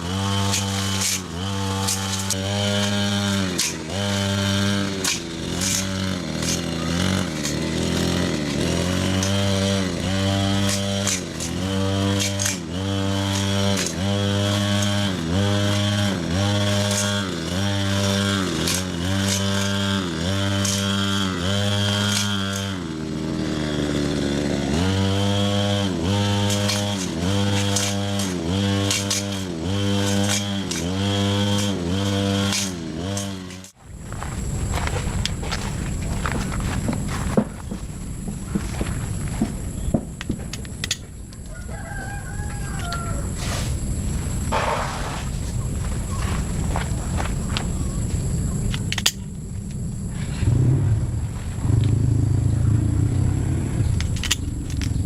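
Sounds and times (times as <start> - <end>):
power tool motor running: 0.0 - 45.2.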